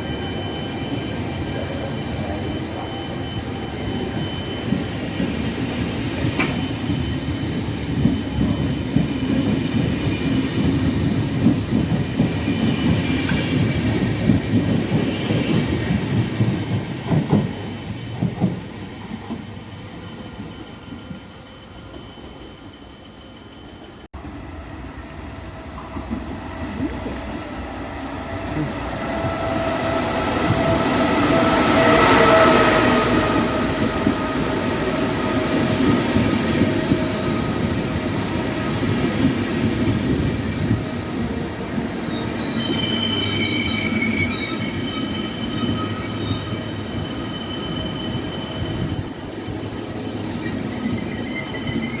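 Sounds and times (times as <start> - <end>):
train running noise: 0.0 - 52.0.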